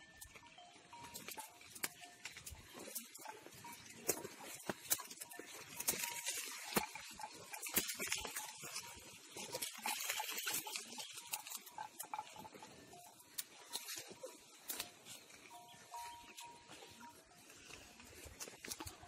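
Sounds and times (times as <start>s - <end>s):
ferns and brush rustling: 0.2s - 19.0s.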